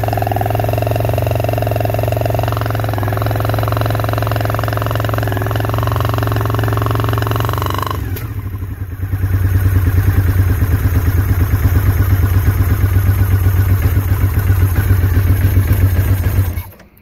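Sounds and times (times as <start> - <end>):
motorcycle engine idling: 0.0 - 16.7.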